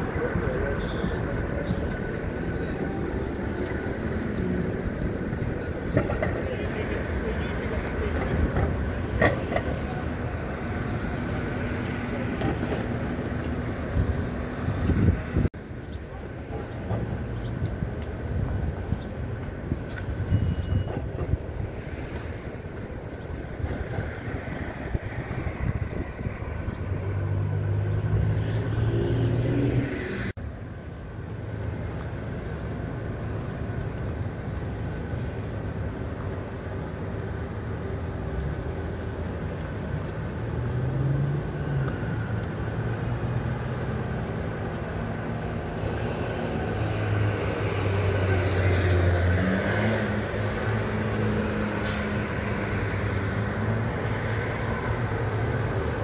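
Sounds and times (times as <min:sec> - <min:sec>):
car engines passing: 0:00.0 - 0:56.0
steady traffic hum: 0:00.0 - 0:56.0.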